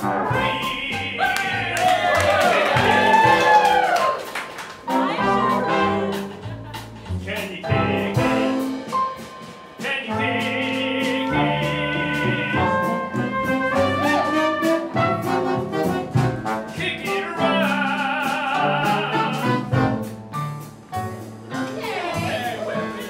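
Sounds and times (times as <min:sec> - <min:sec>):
small jazz band playing: 0:00.0 - 0:23.0.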